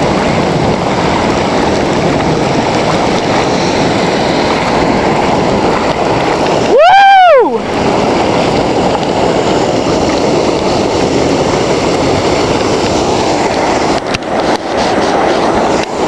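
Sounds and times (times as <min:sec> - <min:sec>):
heavy rain and rushing floodwater: 0:00.0 - 0:16.0
rain tapping on camera: 0:00.0 - 0:16.0.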